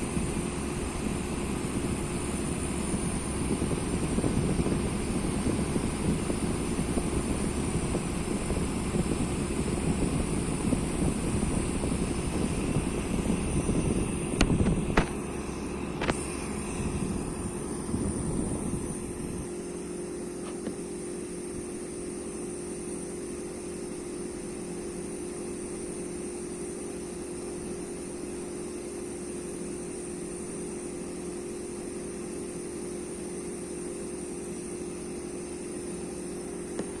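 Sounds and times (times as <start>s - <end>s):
fan heater humming: 0.0s - 37.0s.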